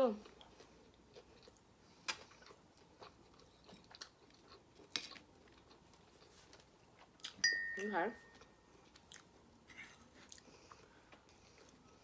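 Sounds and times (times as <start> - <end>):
person chewing: 0.2 - 7.6, 8.2 - 12.0.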